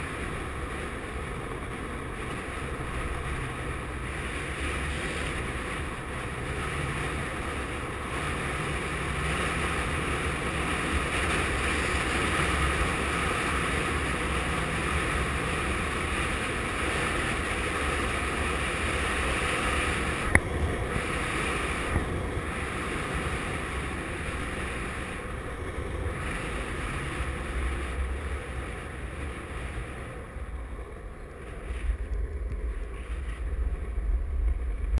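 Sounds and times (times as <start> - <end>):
longboard wheels on asphalt: 0.0 - 35.0
wind buffeting microphone: 0.0 - 35.0.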